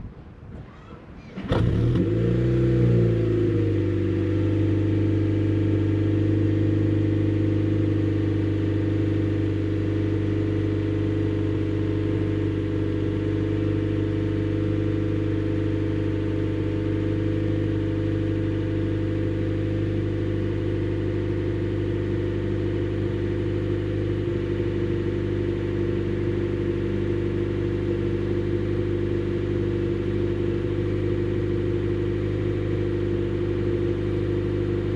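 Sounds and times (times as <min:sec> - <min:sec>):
car engine starting and idling: 0:00.3 - 0:34.9.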